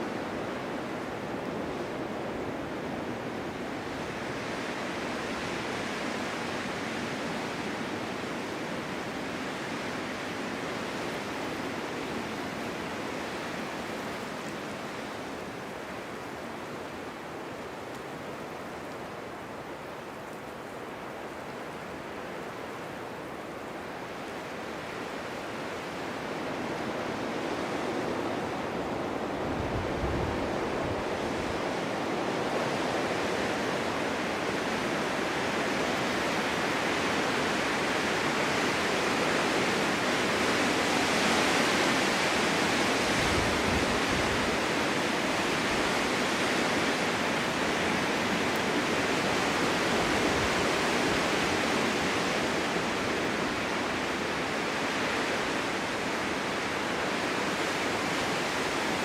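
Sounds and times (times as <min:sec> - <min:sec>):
strong gusting wind: 0:00.0 - 0:59.0
low wind buffet: 0:00.1 - 0:59.0.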